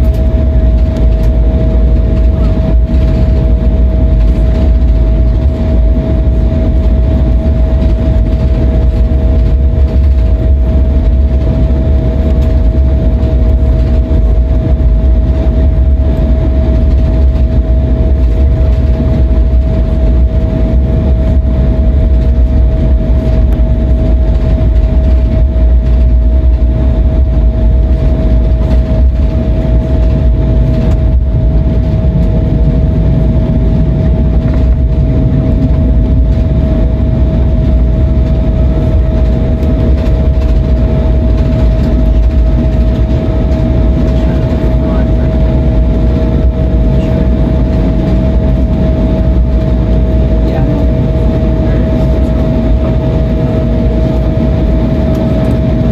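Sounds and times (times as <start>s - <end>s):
jet engines idling: 0.0s - 55.9s
low rumble of wheels rolling: 0.0s - 55.9s.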